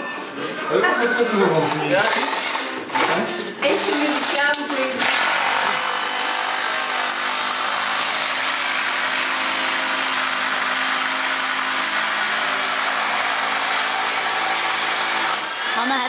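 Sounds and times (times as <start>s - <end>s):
machine running: 1.9s - 16.0s.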